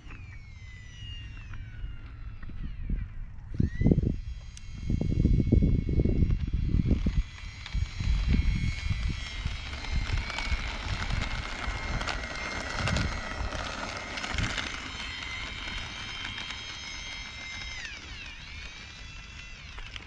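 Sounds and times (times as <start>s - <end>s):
electric ducted fans whining: 0.0s - 20.0s
wind rumble on microphone: 0.0s - 20.0s.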